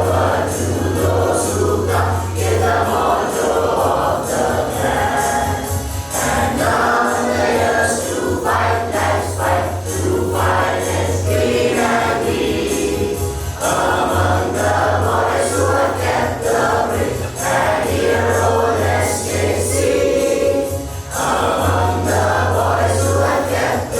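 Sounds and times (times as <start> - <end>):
voices singing in unison: 0.0 - 23.9.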